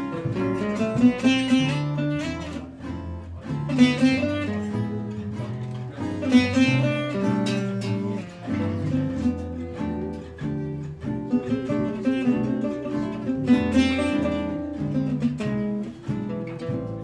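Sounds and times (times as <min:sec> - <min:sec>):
acoustic guitar melody: 0:00.0 - 0:17.0
double bass plucking: 0:00.0 - 0:17.0
guitar strumming chords: 0:00.0 - 0:17.0.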